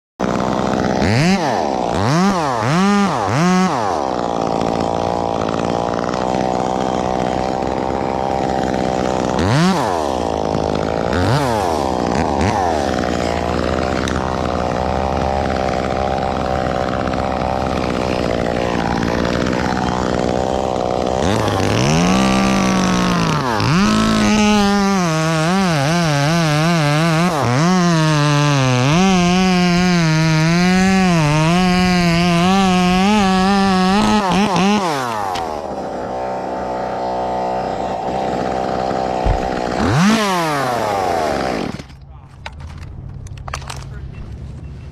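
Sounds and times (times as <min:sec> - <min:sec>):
chainsaw engine revving: 0:00.2 - 0:44.0.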